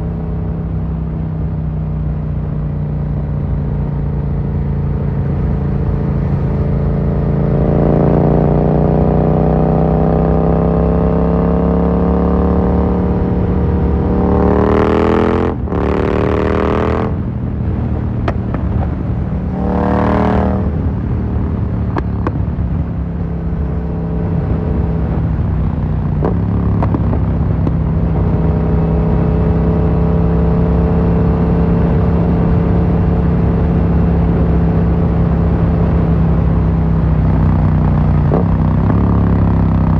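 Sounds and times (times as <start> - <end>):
motorcycle engine revving: 4.1 - 39.9.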